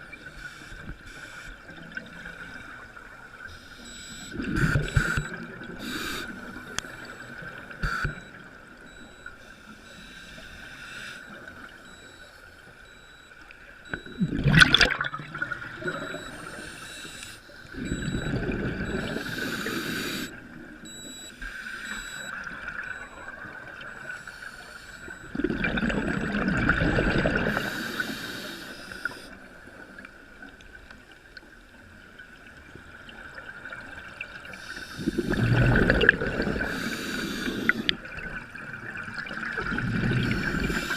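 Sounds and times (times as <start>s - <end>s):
faint steady tone: 0.0s - 40.9s.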